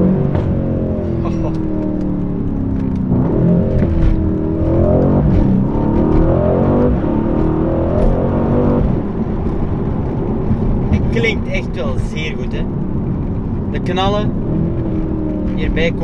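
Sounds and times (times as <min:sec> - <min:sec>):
car engine accelerating hard: 0:00.0 - 0:16.0
exhaust crackles: 0:00.0 - 0:16.0.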